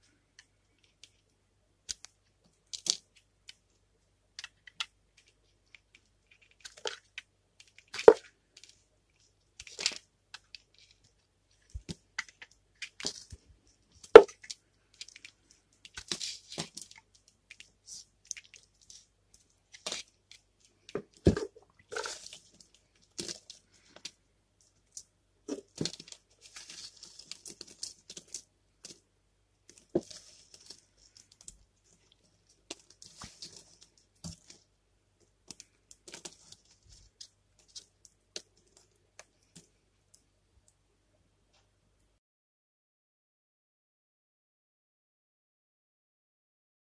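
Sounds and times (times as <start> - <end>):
soap flakes crackling: 0.4 - 29.0, 29.6 - 34.7, 35.3 - 39.8.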